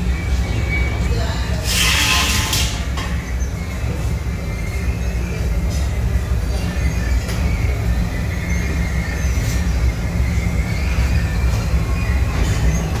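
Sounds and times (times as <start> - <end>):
conveyor mechanical rumble: 0.0 - 13.0.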